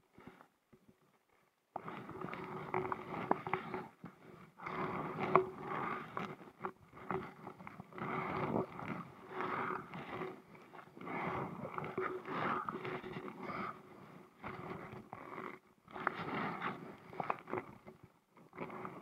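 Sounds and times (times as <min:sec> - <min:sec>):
paddle strokes swishing through water: 0:01.8 - 0:19.0.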